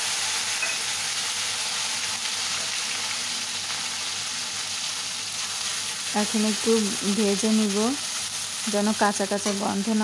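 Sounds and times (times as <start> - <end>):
paste sizzling in hot oil: 0.0 - 10.0.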